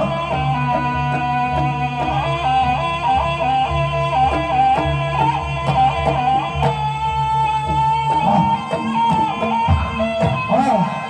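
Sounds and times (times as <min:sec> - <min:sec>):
steady beat of repeated hits: 0:00.0 - 0:11.0.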